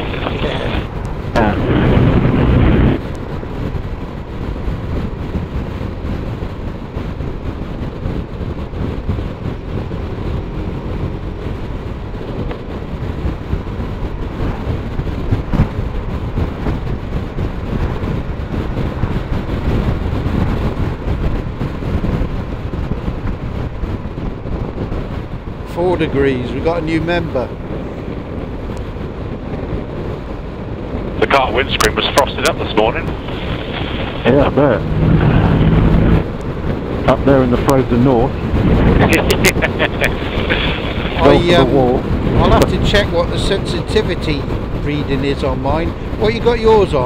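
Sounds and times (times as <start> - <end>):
wind and road noise: 0.0 - 47.0.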